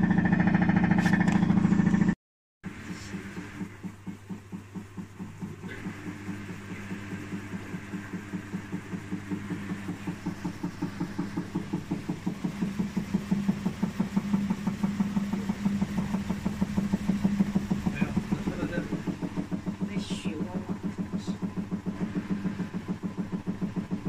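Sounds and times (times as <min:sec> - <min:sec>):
washing machine spinning: 0:00.0 - 0:24.0
rapid knocking in drum: 0:03.1 - 0:24.0.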